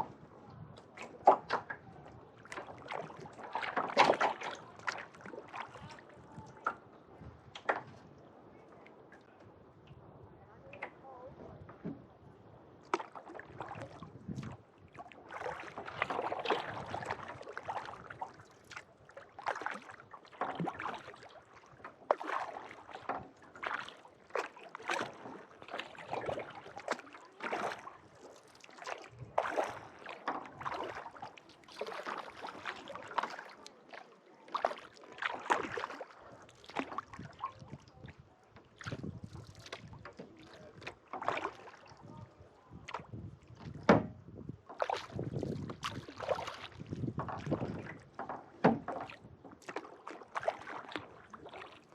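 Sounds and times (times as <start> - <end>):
kayak paddle splashing: 0.0 - 9.5, 10.6 - 51.9
faint wind: 0.0 - 51.8.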